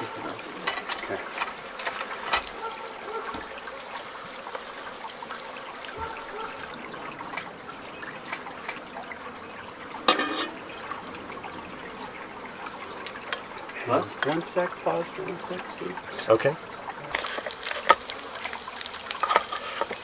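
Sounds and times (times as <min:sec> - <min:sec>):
stream trickling over rocks: 0:00.0 - 0:20.0.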